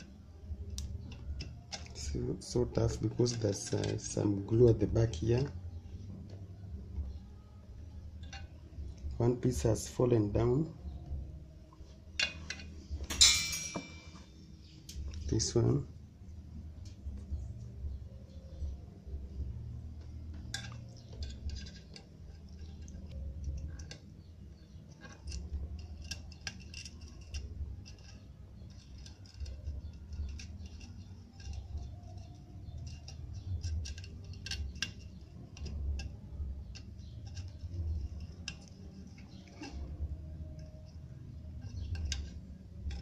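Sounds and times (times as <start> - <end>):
metal pick clicking and scratching: 0.0 - 6.4, 7.1 - 14.1, 16.8 - 43.0.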